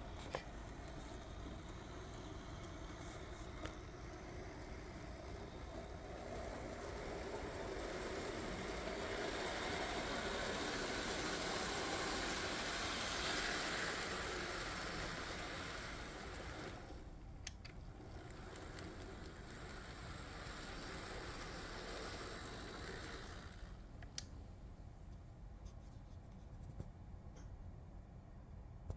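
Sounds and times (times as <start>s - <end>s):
model train motor whirring: 0.0s - 24.5s.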